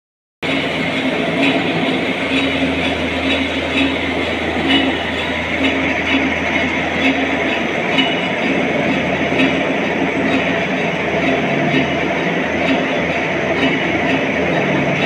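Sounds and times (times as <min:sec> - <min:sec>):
metal lathe humming: 0:00.4 - 0:15.0.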